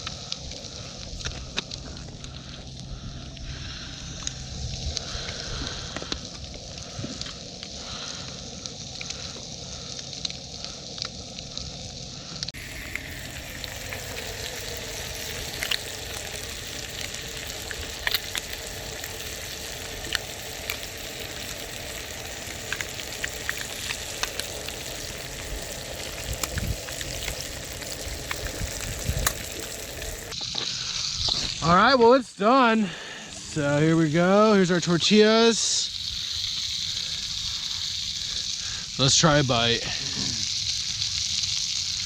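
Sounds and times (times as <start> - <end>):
fish sizzling in a pan: 0.0 - 42.0.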